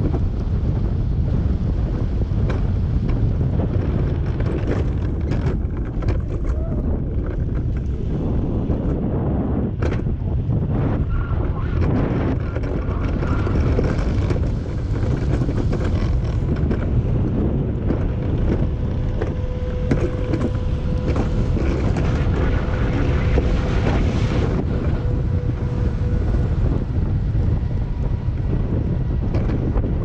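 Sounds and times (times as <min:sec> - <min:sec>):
sled wheels rumbling on rail: 0:00.0 - 0:30.0
wind on microphone: 0:00.0 - 0:30.0.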